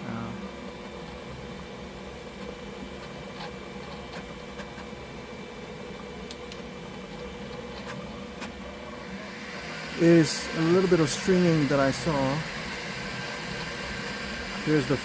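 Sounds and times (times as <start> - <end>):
printer fan and motor hum: 0.0 - 15.0.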